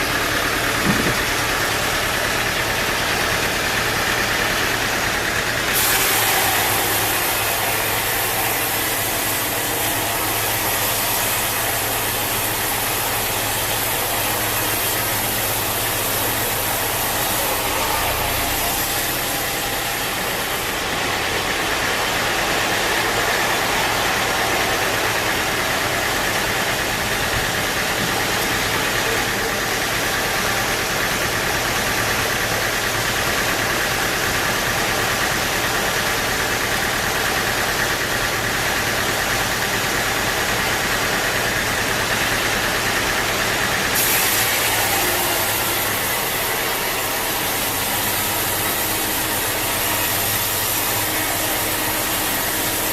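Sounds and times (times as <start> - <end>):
sawmill machinery running: 0.0 - 52.9.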